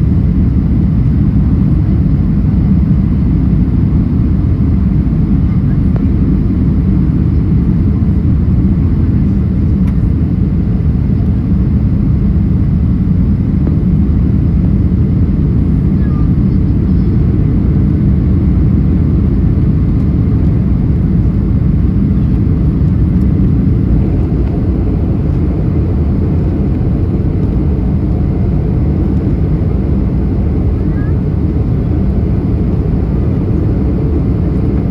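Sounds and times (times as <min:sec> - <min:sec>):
airplane cabin engine roar: 0:00.0 - 0:34.9.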